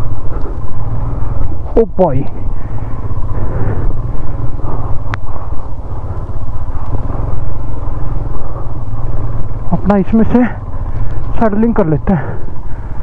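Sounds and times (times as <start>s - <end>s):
motorcycle engine under load: 0.0s - 13.0s.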